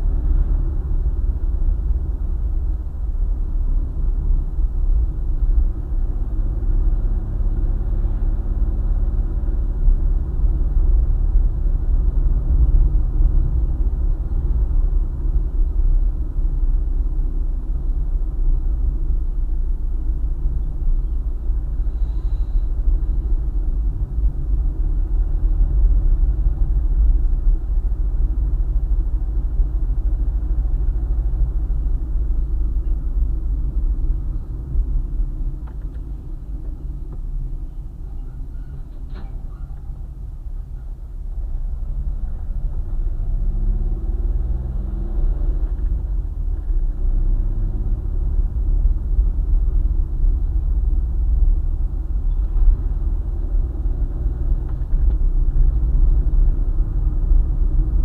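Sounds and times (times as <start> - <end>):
car driving on highway: 0.0 - 58.0.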